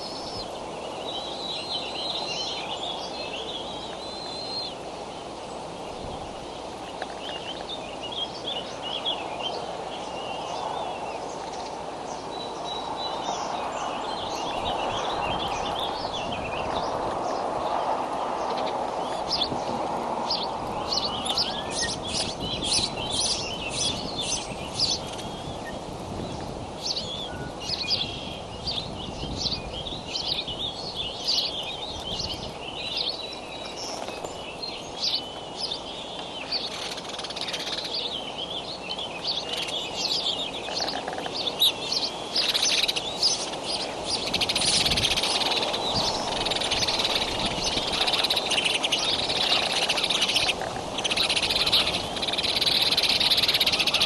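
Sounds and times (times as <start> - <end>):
birds chirping and singing: 0.0 - 54.0
steady background hiss: 0.0 - 54.0.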